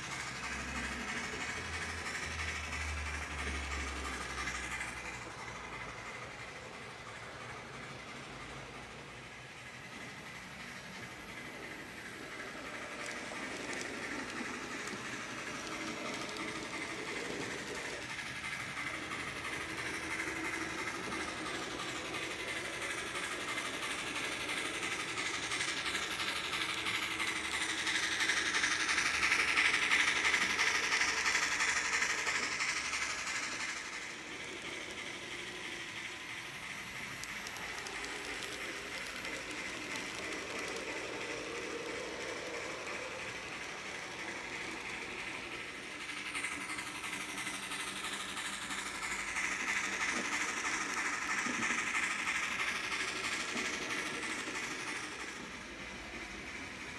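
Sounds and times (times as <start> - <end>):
model train wheels rattling on rail: 0.0 - 56.9.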